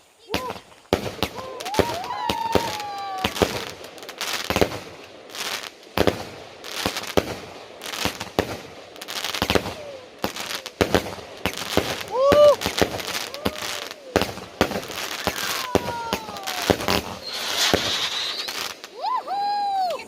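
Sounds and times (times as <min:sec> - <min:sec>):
fireworks crackling: 0:00.0 - 0:20.0
fireworks banging: 0:00.3 - 0:20.0.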